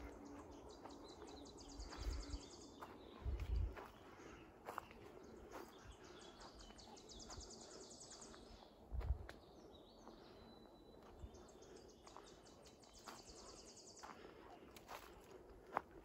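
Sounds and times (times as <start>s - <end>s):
footsteps on dirt trail: 0.0s - 9.4s, 10.0s - 16.0s.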